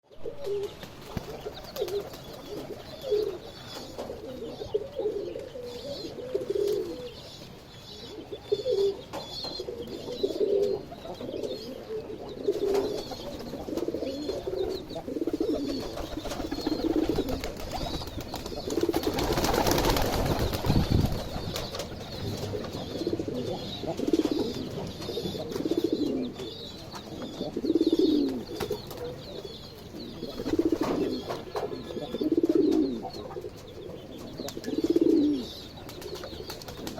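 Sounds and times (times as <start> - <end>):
chicks peeping: 0.6 - 36.9.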